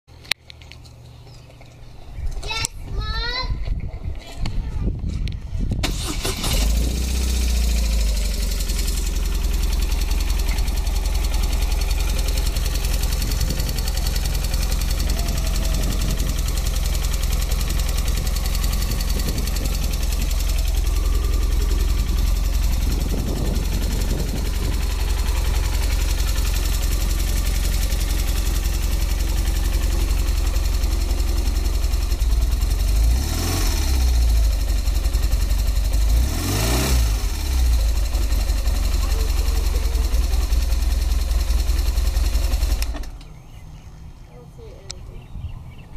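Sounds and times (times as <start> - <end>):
engine ticking: 5.8 - 43.6
motorcycle engine idling: 6.6 - 44.2.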